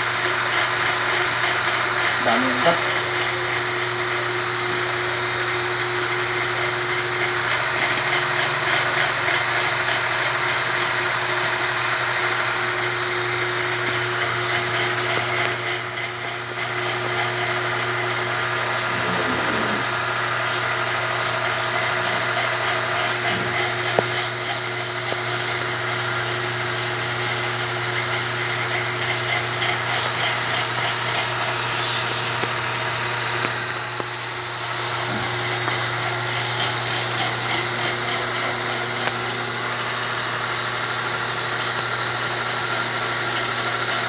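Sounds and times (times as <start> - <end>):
small sprayer engine running: 0.0 - 44.0.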